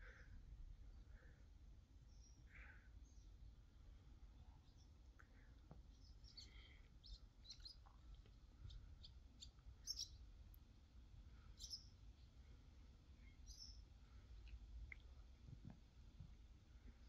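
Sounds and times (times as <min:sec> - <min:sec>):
small birds chirping: 0:00.0 - 0:15.8
low background rumble: 0:00.0 - 0:17.0.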